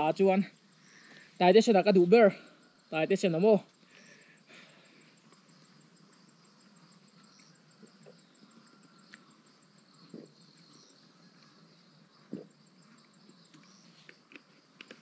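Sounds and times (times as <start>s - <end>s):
insect chirping: 0.0s - 15.0s.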